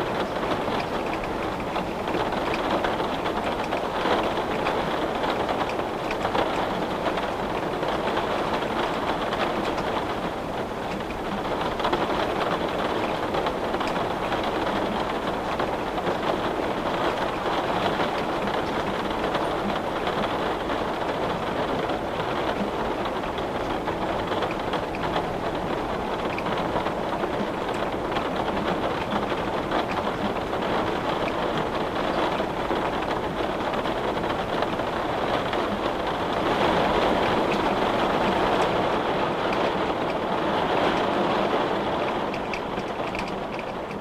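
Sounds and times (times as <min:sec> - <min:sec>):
rain on a window: 0:00.0 - 0:44.0.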